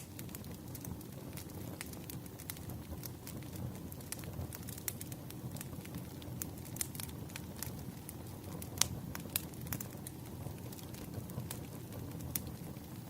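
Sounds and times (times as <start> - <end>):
burning logs rumbling: 0.0 - 13.0
wood fire crackling and popping: 0.0 - 13.0.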